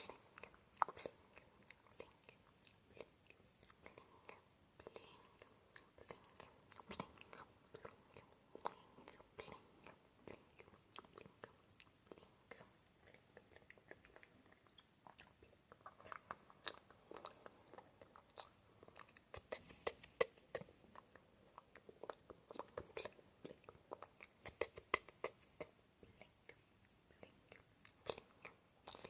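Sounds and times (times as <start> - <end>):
wet tongue and lip clicks: 0.0 - 29.0.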